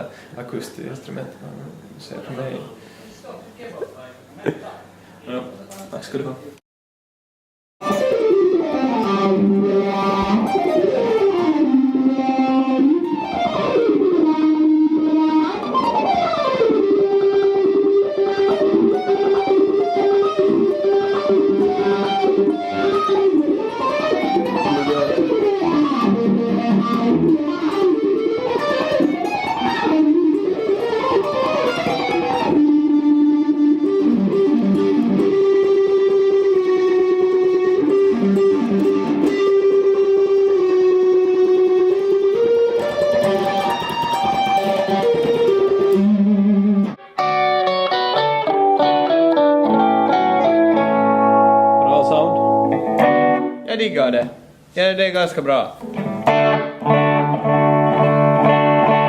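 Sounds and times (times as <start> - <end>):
electric guitar lead melody: 7.8 - 53.7, 55.8 - 59.0.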